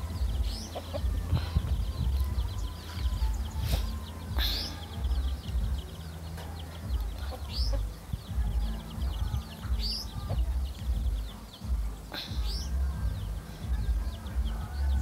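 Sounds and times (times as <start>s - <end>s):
chicks peeping: 0.0s - 15.0s
hen clucking: 0.0s - 15.0s
pulsing low rumble: 0.0s - 15.0s.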